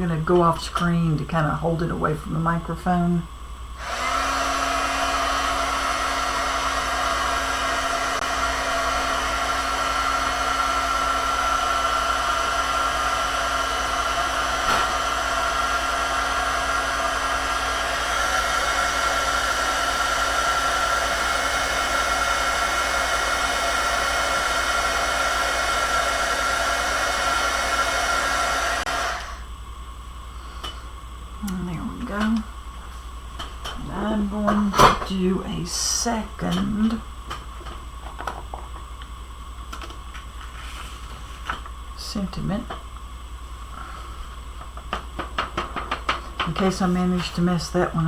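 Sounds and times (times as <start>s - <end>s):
heat gun running: 0.0s - 29.6s, 31.4s - 32.9s, 33.7s - 48.0s.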